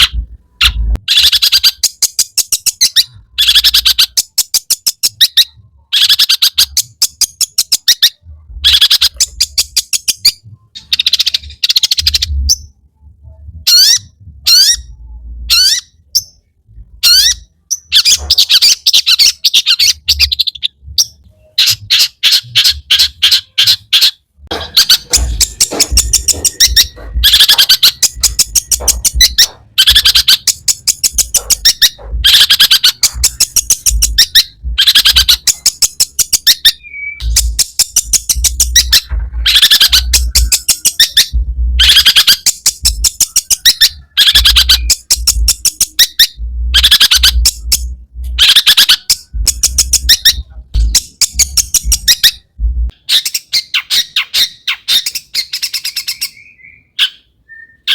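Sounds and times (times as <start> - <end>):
shrike harsh chattering song: 0.0 - 57.9.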